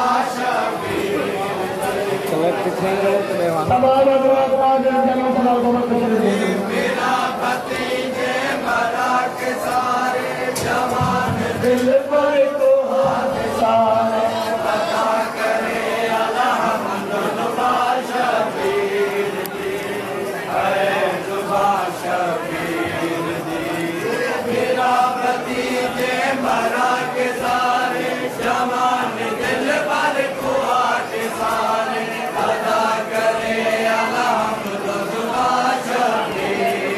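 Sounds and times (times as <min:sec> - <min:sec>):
men chanting a lament: 0:00.0 - 0:36.9.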